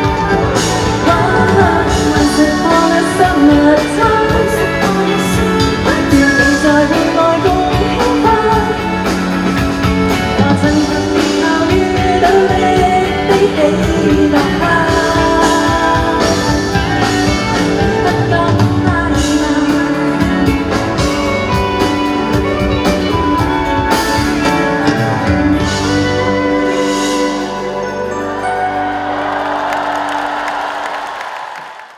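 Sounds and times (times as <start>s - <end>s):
live pop-rock band: 0.0s - 31.7s.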